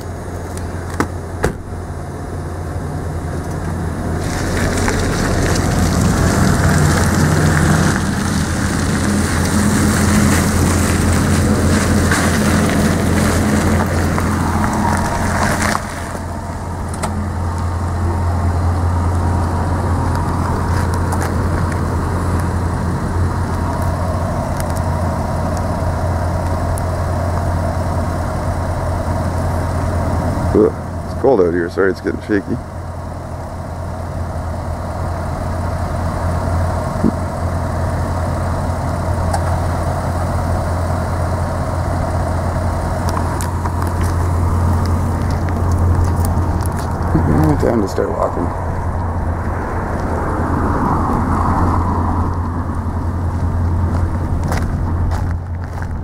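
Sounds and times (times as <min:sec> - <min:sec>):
car engine running and idling: 0:00.0 - 0:56.0.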